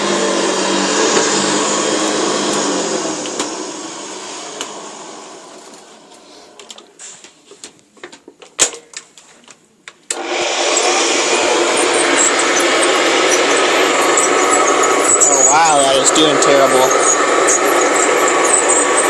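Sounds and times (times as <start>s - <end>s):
upright vacuum cleaner running: 0.0s - 6.9s, 10.1s - 19.0s.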